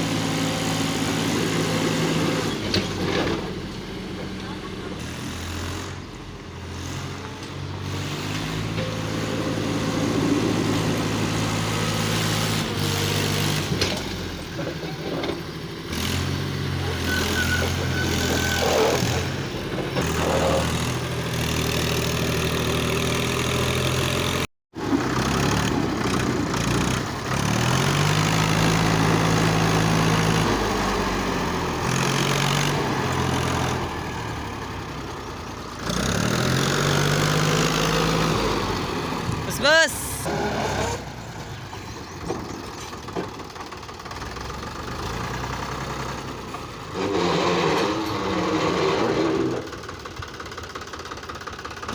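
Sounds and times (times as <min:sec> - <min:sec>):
tractor engine under strain: 0:00.0 - 0:51.9.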